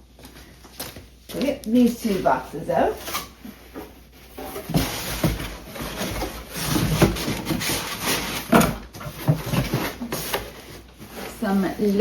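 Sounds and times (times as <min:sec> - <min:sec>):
boxes rustling and scraping: 0:00.2 - 0:12.0.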